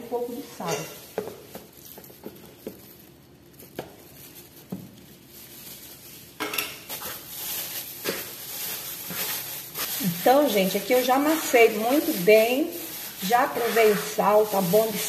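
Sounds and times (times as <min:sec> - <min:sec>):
plastic bag rustling and squishing: 0:00.1 - 0:15.0.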